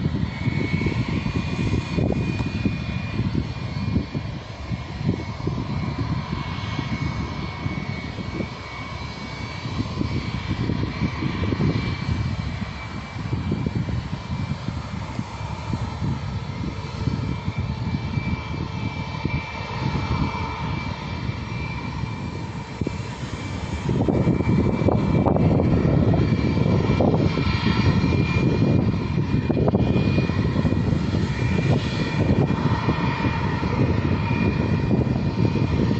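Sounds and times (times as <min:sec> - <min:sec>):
jet engines whining: 0:00.0 - 0:35.9
low rumble: 0:00.0 - 0:35.9.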